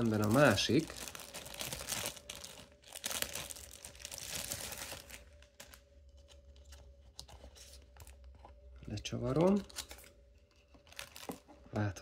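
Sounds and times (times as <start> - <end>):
plastic wrapping crinkling: 0.0 - 8.4, 9.3 - 11.9.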